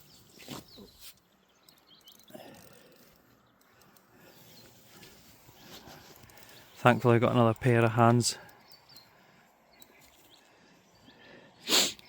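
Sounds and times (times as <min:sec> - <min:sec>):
faint bird chirps: 0:00.0 - 0:07.0, 0:08.4 - 0:11.5.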